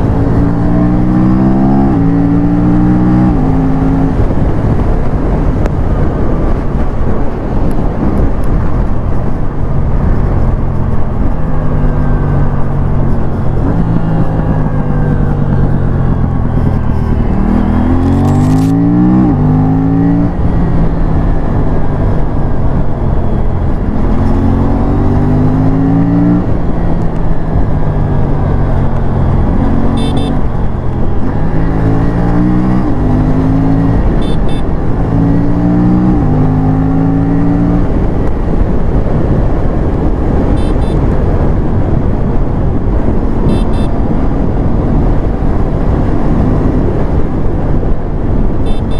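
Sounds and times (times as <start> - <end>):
motorcycle engine accelerating: 0.0 - 48.9
wind noise: 0.0 - 48.9.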